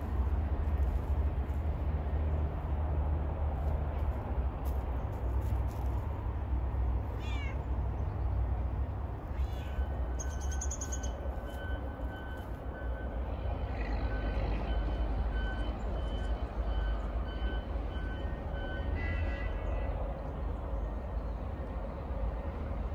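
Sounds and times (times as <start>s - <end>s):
low outdoor rumble: 0.0s - 22.9s.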